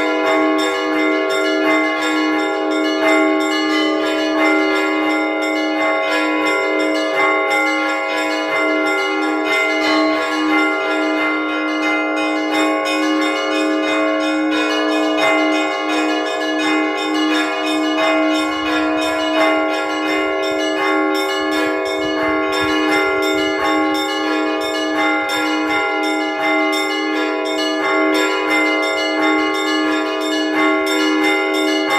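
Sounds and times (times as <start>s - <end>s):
low church bell strikes: 0.0s - 31.9s
small high-pitched bells ringing: 0.0s - 31.9s.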